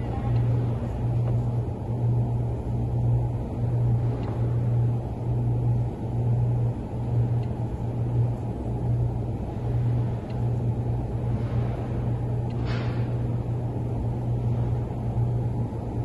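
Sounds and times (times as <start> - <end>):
wrapping machine humming: 0.0 - 16.0.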